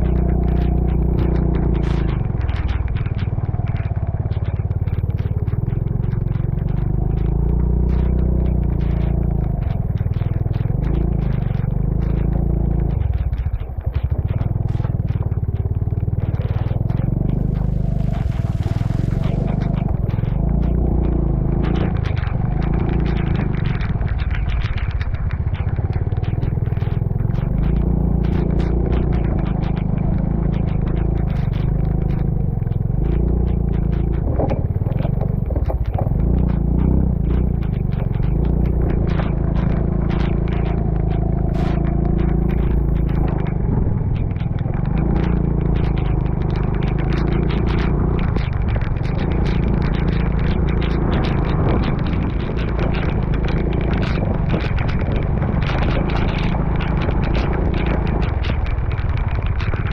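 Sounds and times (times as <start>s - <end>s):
motorcycle engine running: 0.0s - 59.9s
sharp ticks and knocks: 0.0s - 59.9s.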